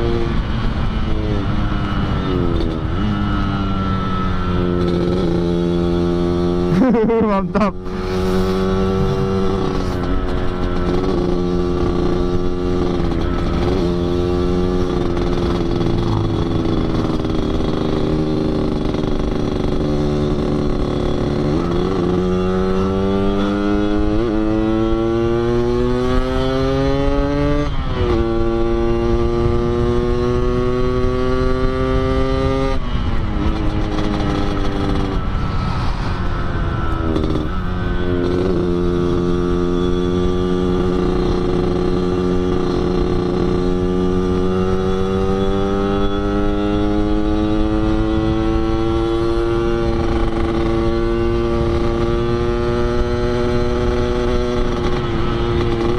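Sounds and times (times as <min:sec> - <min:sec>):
two-stroke motorcycle accelerating: 0:00.0 - 0:55.9.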